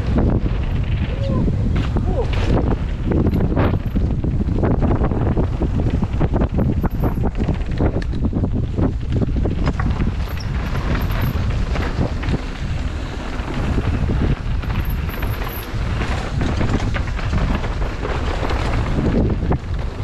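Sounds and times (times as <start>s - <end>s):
bike knocking and rattling: 0.0s - 20.0s
wind buffeting microphone: 0.0s - 20.0s.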